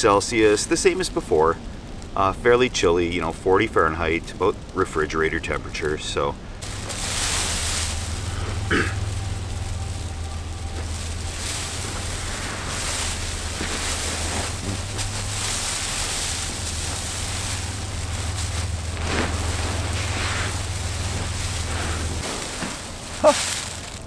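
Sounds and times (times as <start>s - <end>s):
crinkling foil tent material: 0.0s - 24.0s
steady low rumble: 0.0s - 24.0s.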